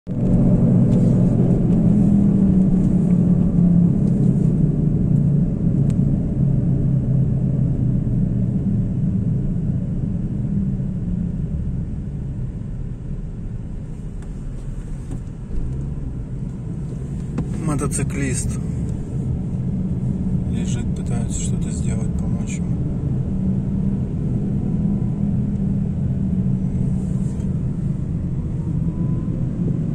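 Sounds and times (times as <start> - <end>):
car engine and tyres rumbling: 0.0 - 29.9.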